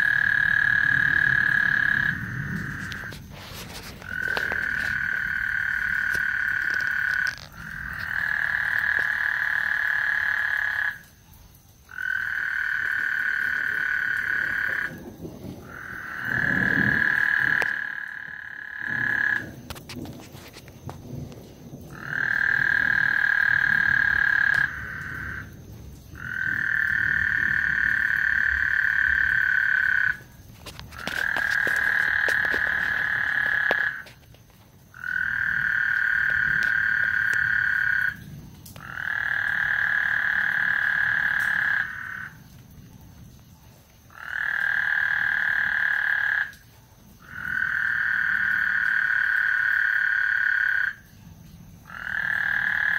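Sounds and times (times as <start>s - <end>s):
frogs trilling: 0.0s - 52.9s.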